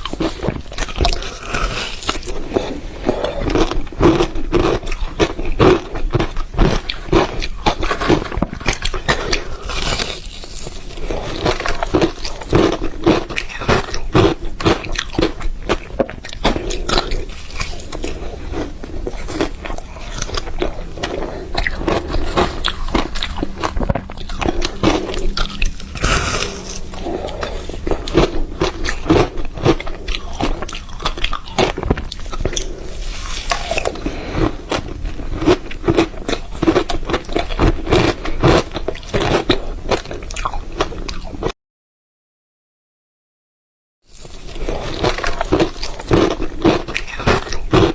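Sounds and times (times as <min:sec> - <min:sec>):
ice being chewed: 0:00.0 - 0:41.5, 0:44.1 - 0:47.9.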